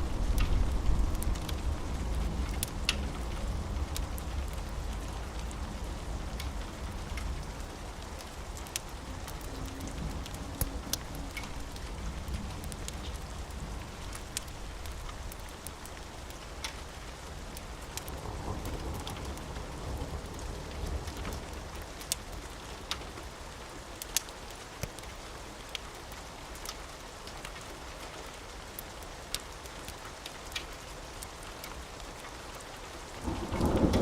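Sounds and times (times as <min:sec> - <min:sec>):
rain on a roof: 0:00.0 - 0:34.0.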